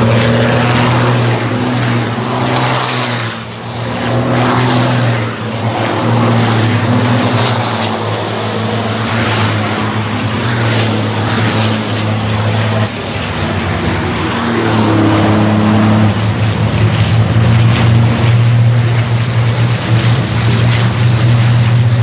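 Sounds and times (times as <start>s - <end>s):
truck diesel engines running hard: 0.0s - 22.0s
trucks passing by rush: 0.0s - 22.0s.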